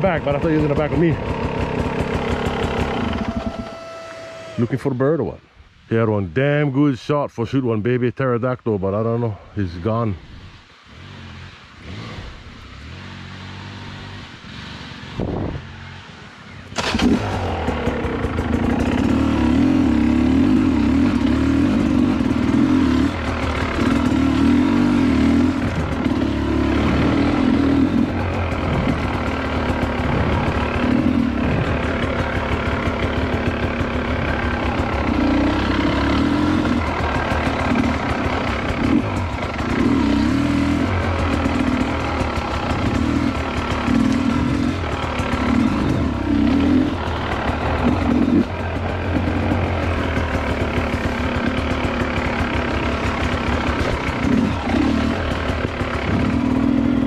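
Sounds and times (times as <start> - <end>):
dirt bike engine revving: 0.0 - 4.8, 10.4 - 57.0.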